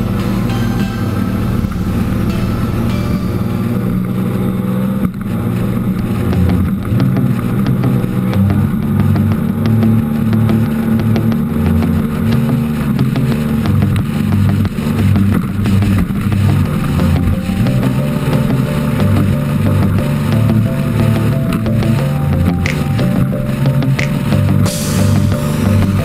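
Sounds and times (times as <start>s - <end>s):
outboard motor running: 1.3s - 26.0s.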